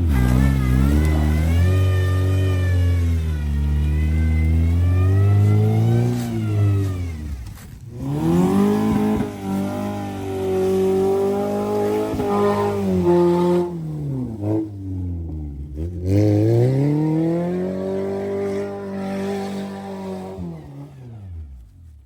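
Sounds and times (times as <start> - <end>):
car engine revving hard: 0.0 - 21.6.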